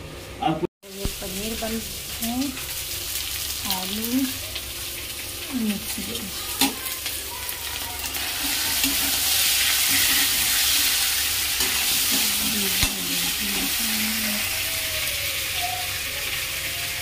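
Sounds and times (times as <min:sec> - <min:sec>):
vegetables frying in hot oil: 0:00.8 - 0:17.0.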